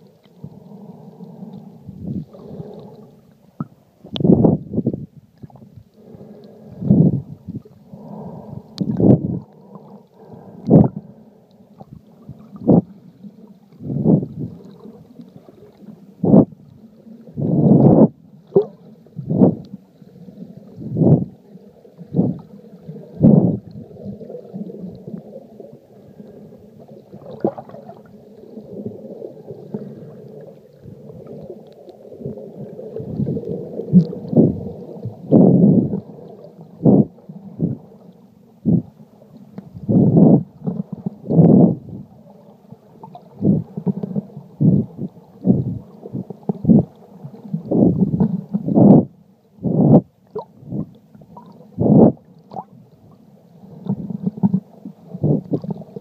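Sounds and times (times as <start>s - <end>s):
muffled underwater rumble: 0.0s - 56.0s.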